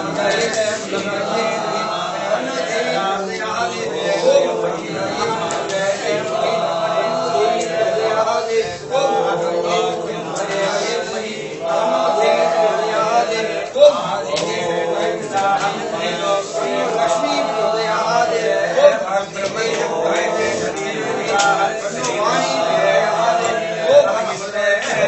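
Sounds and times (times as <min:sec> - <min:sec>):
men chanting together: 0:00.0 - 0:25.0.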